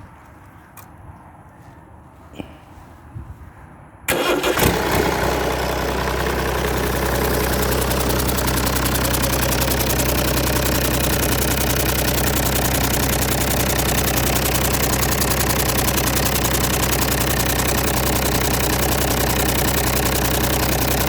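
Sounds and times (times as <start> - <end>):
diesel engine starting and idling: 4.1 - 21.0.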